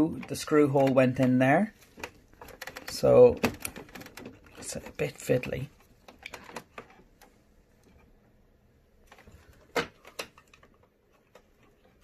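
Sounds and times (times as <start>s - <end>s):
small plastic clicks and knocks: 0.1s - 8.2s, 9.0s - 12.0s.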